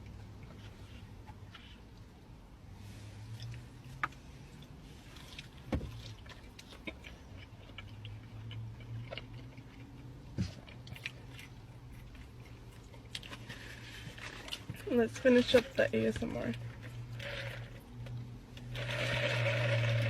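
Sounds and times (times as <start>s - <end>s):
low steady hum: 0.0s - 20.0s
french fries being chewed: 3.3s - 20.0s.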